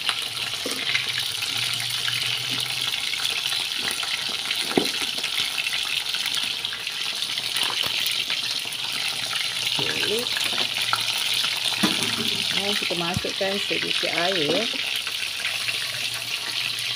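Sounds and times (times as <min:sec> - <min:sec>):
hot oil sizzling: 0:00.0 - 0:16.9.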